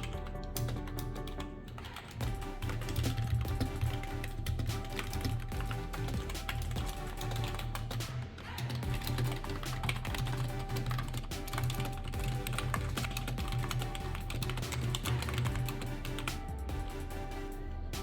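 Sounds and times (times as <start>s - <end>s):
fast keyboard typing: 0.0s - 16.9s
background music: 0.0s - 18.0s.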